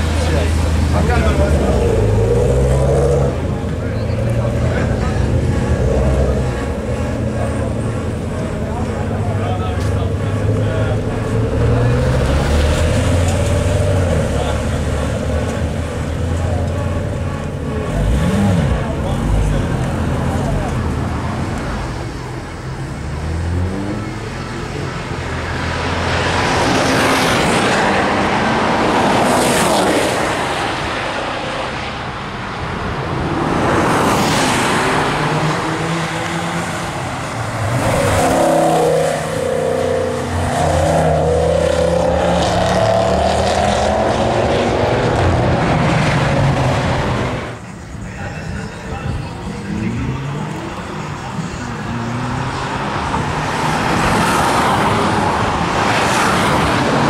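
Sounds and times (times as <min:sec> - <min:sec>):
race cars passing at speed: 0:00.0 - 0:57.0.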